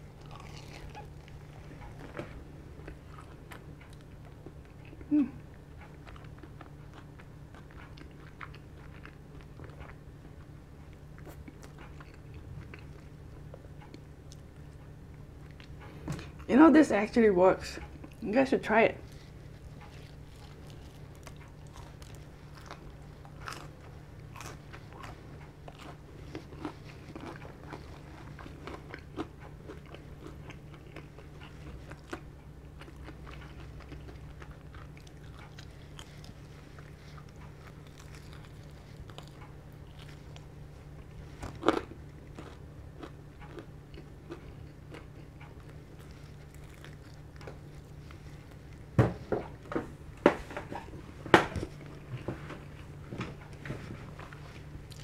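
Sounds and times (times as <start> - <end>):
chewing crispy food: 0.0 - 16.7, 17.7 - 55.0
steady low hum: 0.0 - 55.0.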